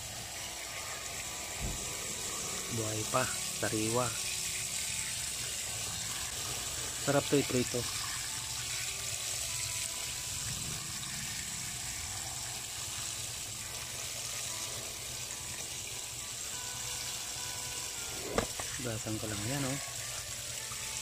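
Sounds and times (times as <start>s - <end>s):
water spraying from hose nozzle: 0.0s - 21.0s.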